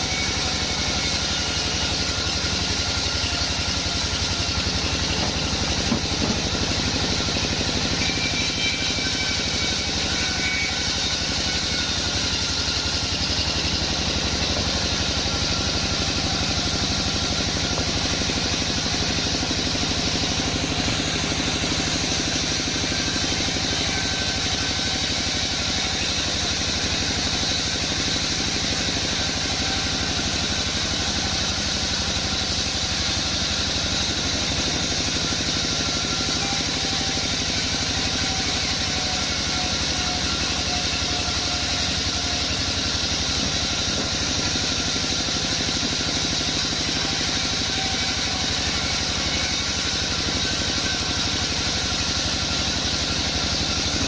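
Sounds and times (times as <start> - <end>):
sawmill engine drone: 0.0 - 54.0.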